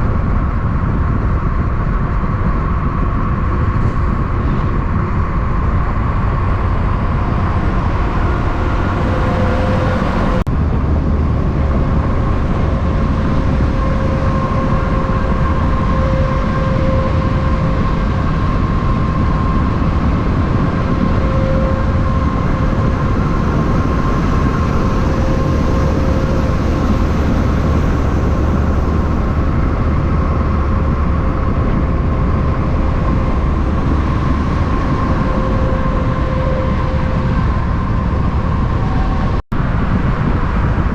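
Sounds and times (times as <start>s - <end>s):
vehicle rumble and hum: 0.0s - 40.9s.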